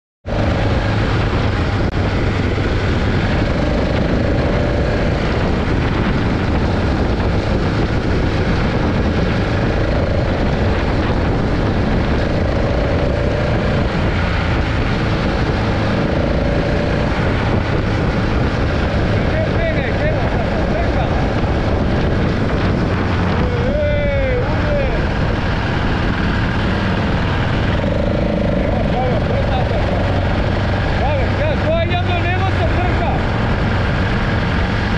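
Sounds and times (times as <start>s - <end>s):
vehicle engine running: 0.2s - 34.9s
wind noise on microphone: 0.2s - 34.9s.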